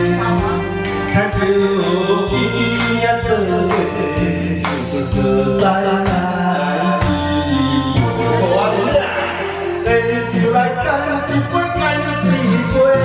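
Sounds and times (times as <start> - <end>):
backing track music: 0.0 - 13.0
man singing into a microphone: 0.0 - 13.0.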